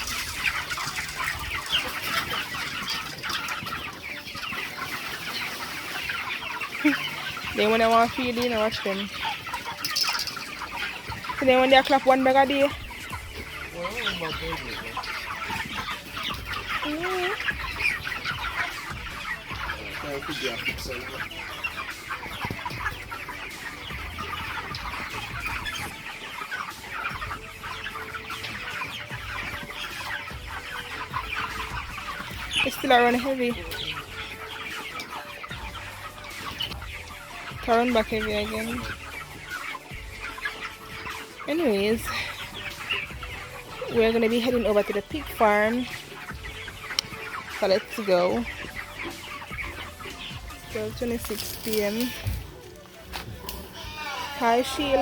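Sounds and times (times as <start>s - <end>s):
chickens peeping and clucking: 0.0s - 55.0s.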